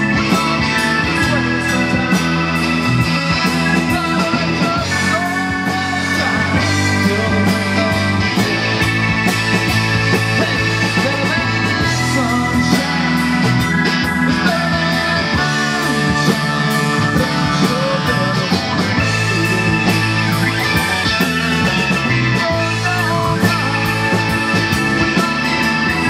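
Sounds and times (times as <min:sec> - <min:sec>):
bending guitar notes: 0:00.0 - 0:26.0
rock band playing live: 0:00.0 - 0:26.0.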